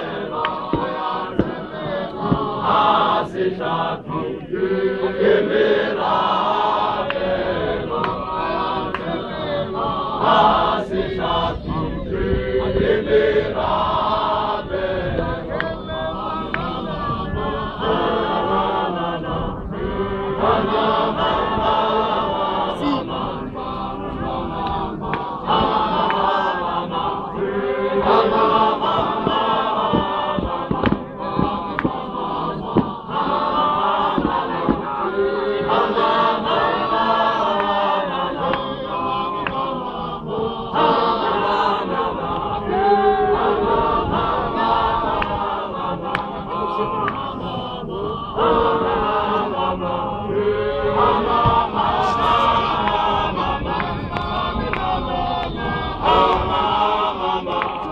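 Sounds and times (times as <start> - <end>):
men's choir chanting a hymn: 0.0 - 57.9.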